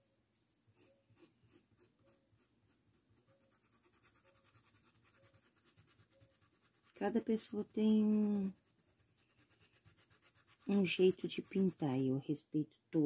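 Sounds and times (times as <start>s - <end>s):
paintbrush scratching on cloth: 0.0s - 12.4s.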